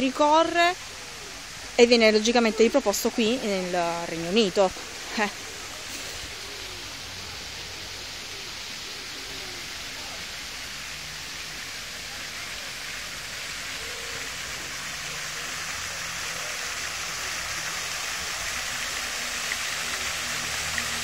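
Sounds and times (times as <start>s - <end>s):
running splashing water: 0.0s - 21.0s.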